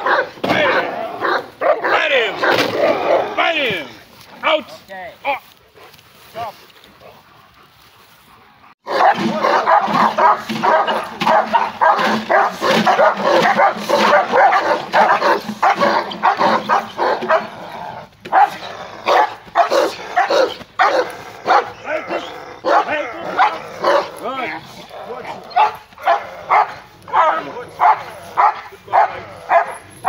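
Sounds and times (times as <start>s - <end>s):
dogs barking: 0.0s - 3.6s, 8.8s - 30.0s.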